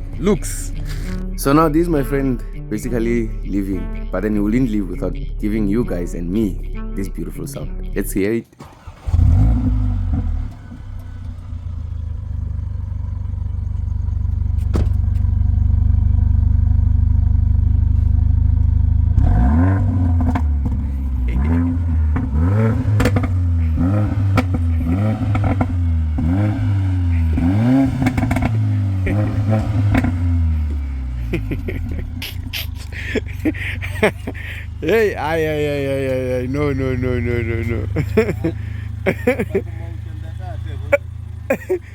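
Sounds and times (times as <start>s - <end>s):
car engine running and revving: 0.0s - 41.9s.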